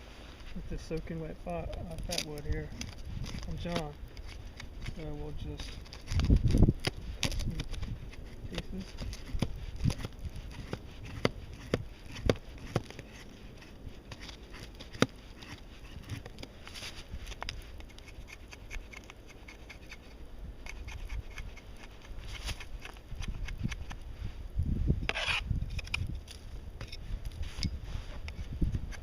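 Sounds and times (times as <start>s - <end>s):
knife scraping wood: 0.9s - 24.0s, 25.0s - 29.0s
knife cutting wood: 0.9s - 24.1s, 25.0s - 29.0s.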